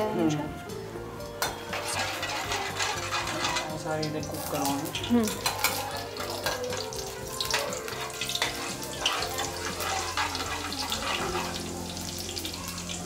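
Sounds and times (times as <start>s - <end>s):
spoon clinking and scraping pan: 1.4s - 12.3s
seeds sizzling in oil: 1.6s - 13.0s.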